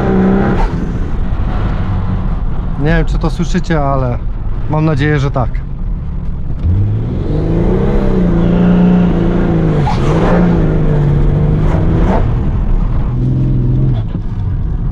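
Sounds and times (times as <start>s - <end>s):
diesel engine accelerating: 0.0s - 14.9s.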